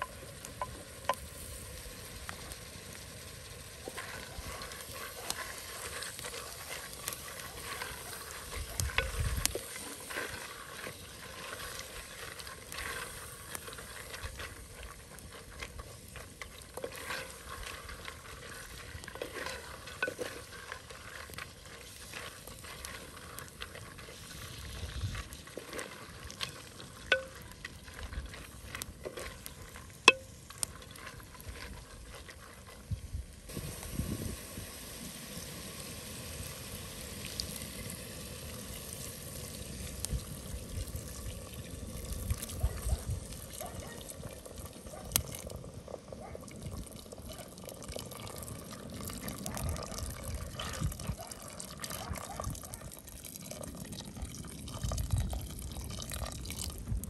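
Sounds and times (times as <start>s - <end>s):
beans sizzling in a pot: 0.0s - 57.0s
water poured into pot: 3.3s - 32.4s, 33.5s - 57.0s.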